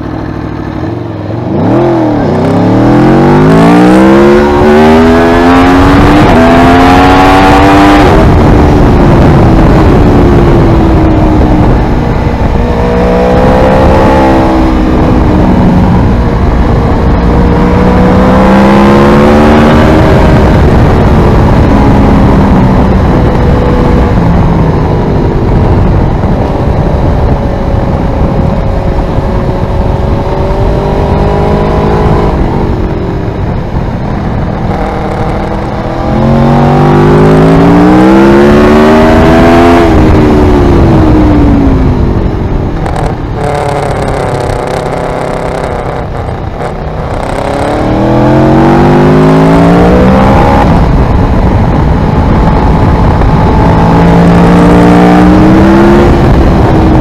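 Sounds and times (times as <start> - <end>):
motorcycle engine accelerating: 0.0 - 57.0
wind noise: 0.0 - 57.0.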